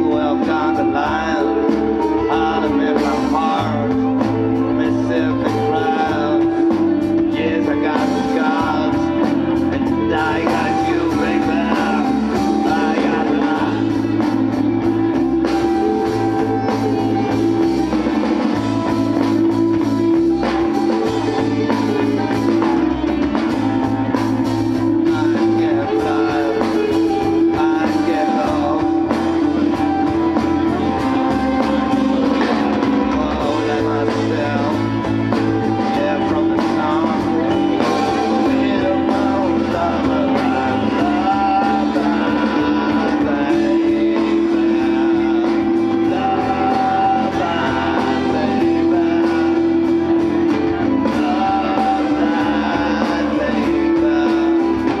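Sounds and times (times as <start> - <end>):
drum kit beat: 0.0 - 55.0
electric guitars: 0.0 - 55.0
person singing: 0.0 - 55.0.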